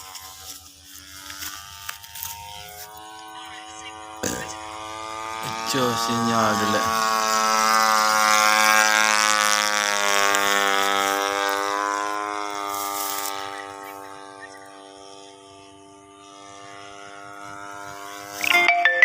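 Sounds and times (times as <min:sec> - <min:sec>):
small aircraft engine running: 0:00.0 - 0:19.0.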